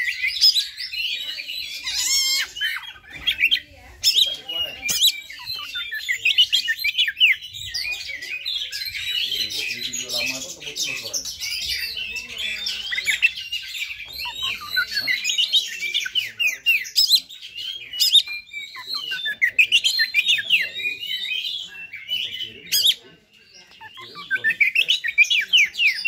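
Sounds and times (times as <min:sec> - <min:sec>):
magpie-robin singing: 0:00.0 - 0:26.0.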